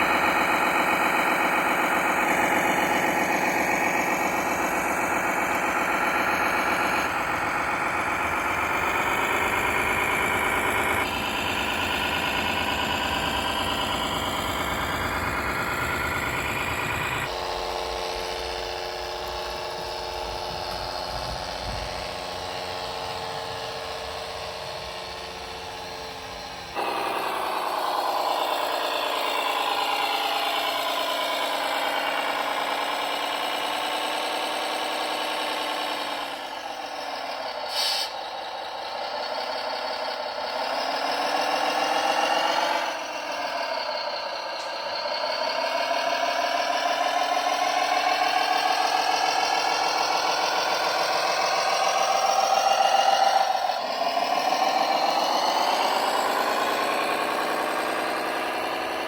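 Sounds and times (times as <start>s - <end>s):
simulated diesel engine sound: 0.0s - 59.0s.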